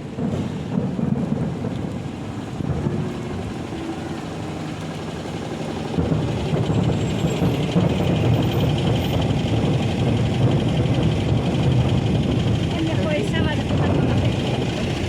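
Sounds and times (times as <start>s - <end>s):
fireworks bangs: 0.0s - 3.7s, 5.8s - 15.0s
fireworks crackling: 0.0s - 15.0s.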